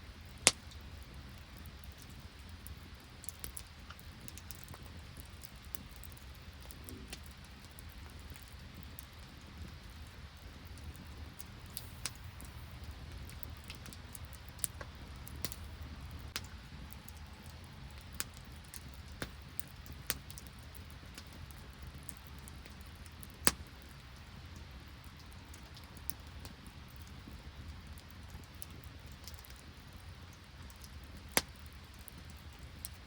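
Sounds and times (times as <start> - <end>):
campfire crackling and popping: 0.0 - 33.0
low background hiss: 0.0 - 33.0.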